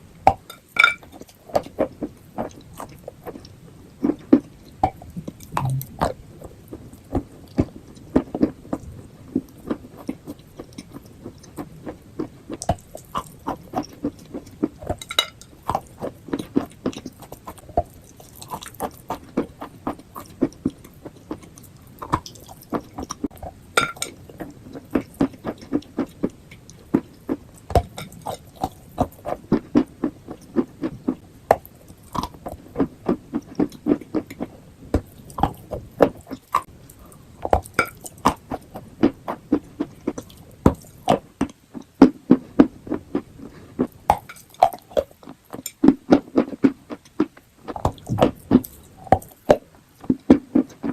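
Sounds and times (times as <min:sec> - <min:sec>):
chalk being chewed with crunches: 0:01.1 - 0:50.9.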